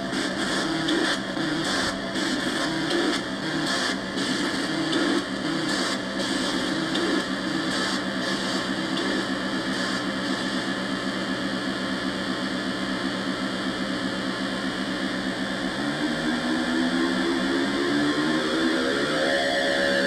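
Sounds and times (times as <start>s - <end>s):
distorted buzzing synthesizer drone: 0.0s - 20.0s.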